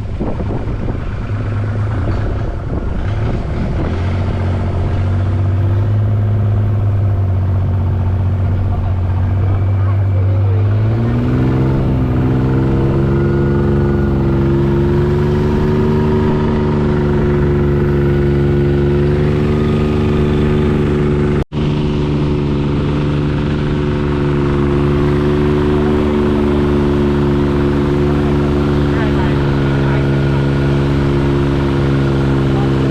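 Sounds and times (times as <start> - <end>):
engine running loud: 0.0 - 32.9.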